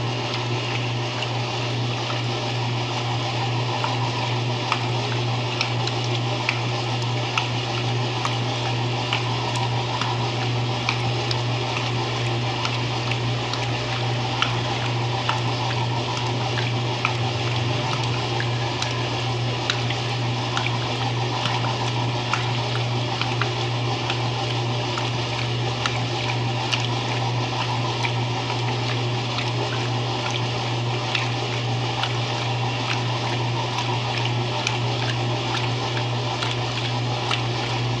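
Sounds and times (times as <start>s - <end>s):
small splashes and clicks: 0.0s - 38.0s
washing machine motor hum: 0.0s - 38.0s
water sloshing: 0.1s - 38.0s.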